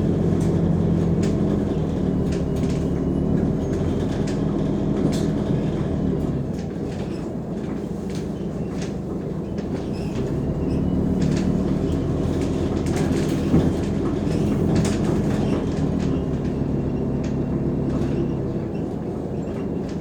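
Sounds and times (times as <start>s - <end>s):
bus body rattling: 0.0s - 20.0s
bus diesel engine droning: 0.0s - 20.0s.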